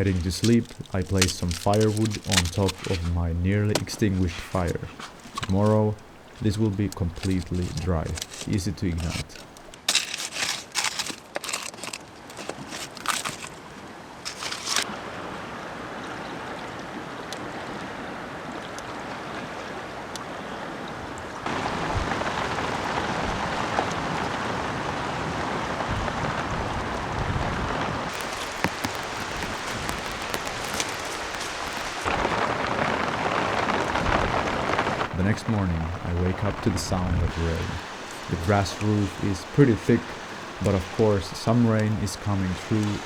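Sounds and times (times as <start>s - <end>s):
steady rain falling: 0.0s - 15.0s, 21.4s - 43.0s.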